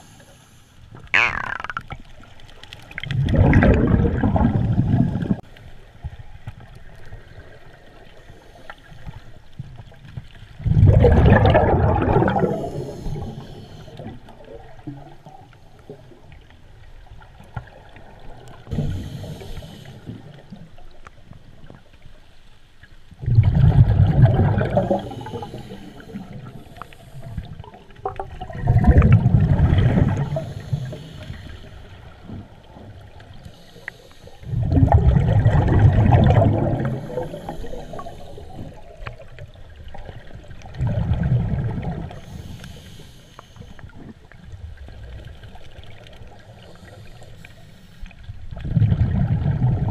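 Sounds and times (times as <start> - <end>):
scuba bubbles gurgling underwater: 1.0 - 22.0, 23.2 - 49.9.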